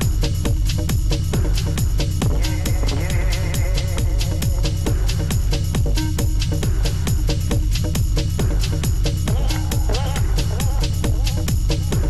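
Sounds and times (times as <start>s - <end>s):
electronic dance music: 0.0s - 12.0s
hi-hats ticking: 0.0s - 12.0s
kick drum: 0.0s - 12.0s.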